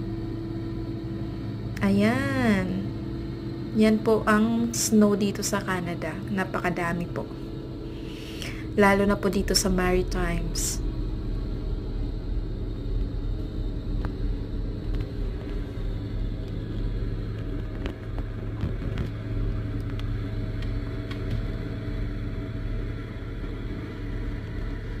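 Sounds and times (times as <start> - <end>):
diesel engine low drone: 0.0 - 25.0.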